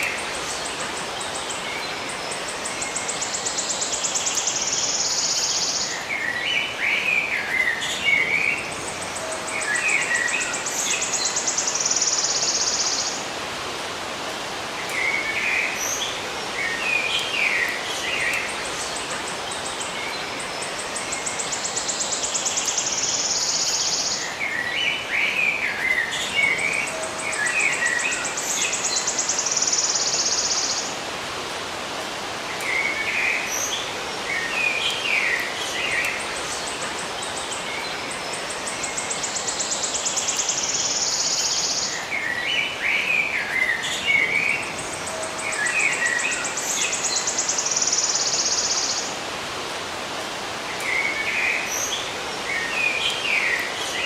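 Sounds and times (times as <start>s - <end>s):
outdoor ambience hiss: 0.0s - 54.0s.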